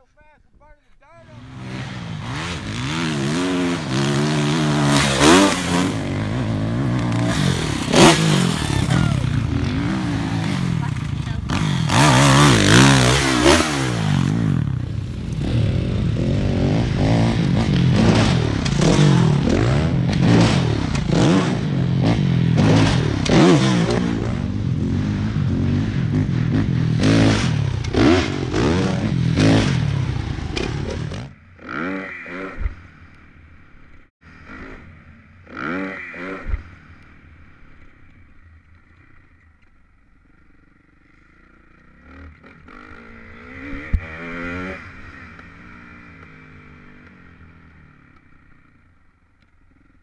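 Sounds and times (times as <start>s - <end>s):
dirt bike engine revving: 1.3s - 37.7s, 40.3s - 48.9s.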